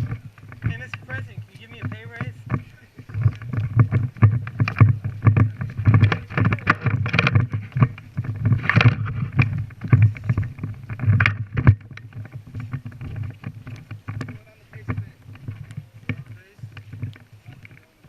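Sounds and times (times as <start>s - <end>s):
footsteps soft thuds: 0.0s - 18.0s
gear and clothing rustling: 0.0s - 18.0s.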